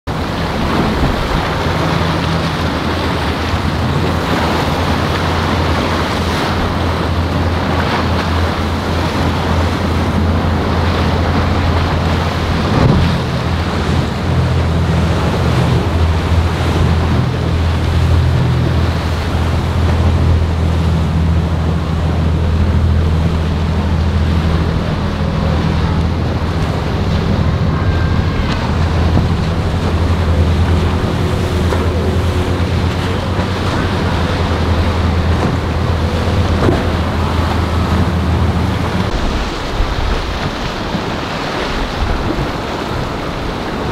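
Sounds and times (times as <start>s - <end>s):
boat engines droning: 0.0s - 43.9s
wake splashing: 0.1s - 43.9s
wind buffeting microphone: 0.1s - 43.9s.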